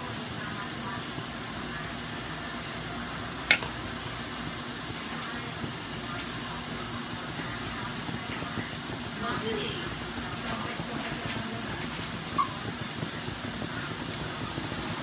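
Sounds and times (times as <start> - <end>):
chicken sizzling in a wok: 0.0 - 15.0.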